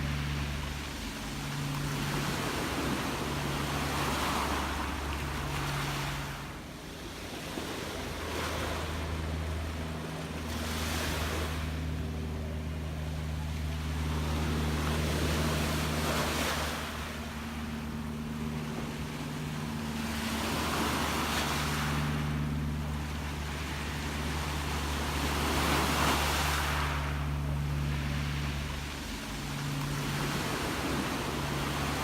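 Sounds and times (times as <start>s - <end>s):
sea waves washing: 0.0s - 32.0s
steady low hum: 0.0s - 32.0s.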